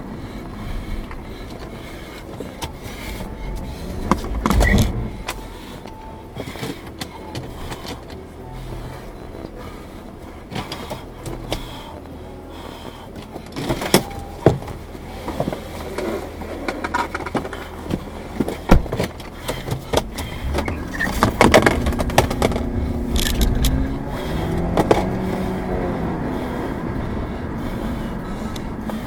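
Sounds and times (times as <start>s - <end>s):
car engine: 0.0s - 29.0s
car knocks and rattles: 0.0s - 29.0s.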